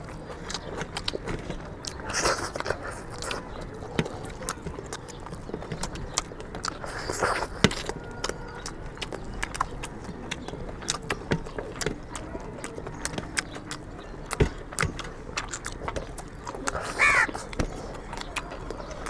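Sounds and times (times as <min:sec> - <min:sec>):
chewing and wet mouth smacks: 0:00.0 - 0:19.0.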